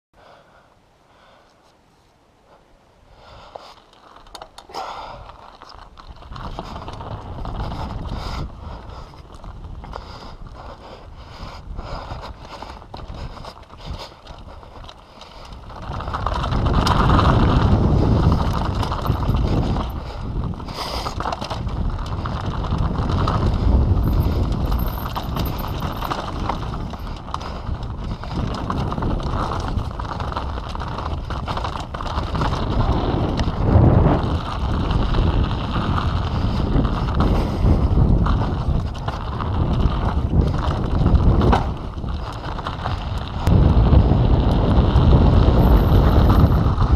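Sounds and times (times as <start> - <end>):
bike rattling over bumps: 3.4 - 46.9
tyres rolling on dirt: 3.6 - 10.6, 12.2 - 46.9
wind rushing on microphone: 6.1 - 46.9.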